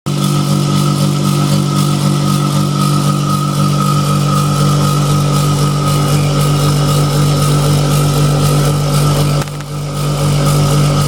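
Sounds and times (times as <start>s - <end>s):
heat pump compressor humming: 0.1s - 11.0s
high whine: 0.1s - 11.0s.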